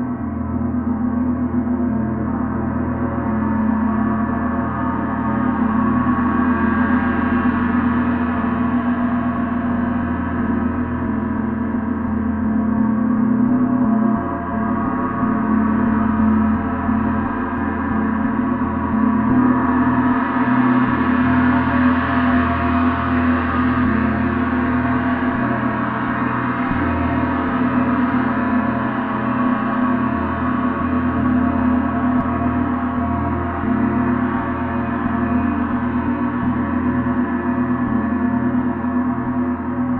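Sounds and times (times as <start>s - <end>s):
gong played continuously: 0.0s - 39.9s.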